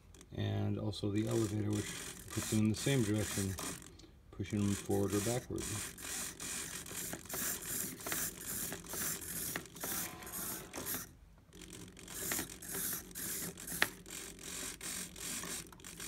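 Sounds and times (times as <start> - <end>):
servos whirring: 1.1 - 16.0.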